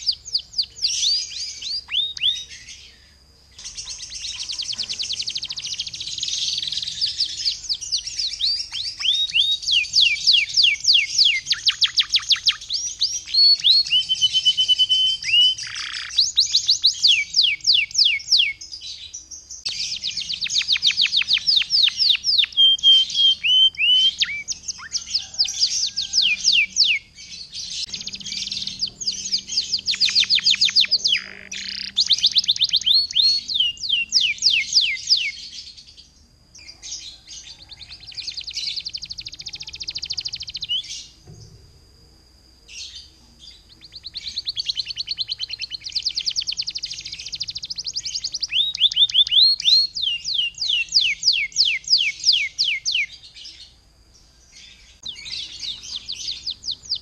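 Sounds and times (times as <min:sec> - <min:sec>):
canary singing: 0:00.0 - 0:41.4, 0:42.4 - 0:57.0.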